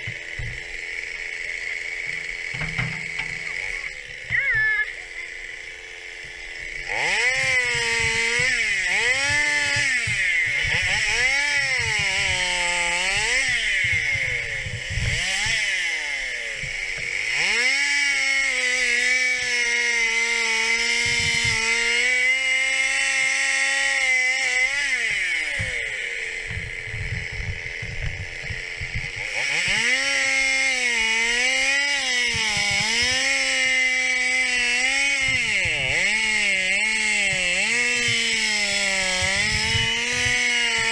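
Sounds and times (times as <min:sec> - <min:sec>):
chainsaw idling: 0:00.0 - 0:40.9
chainsaw revving and cutting: 0:00.0 - 0:40.9.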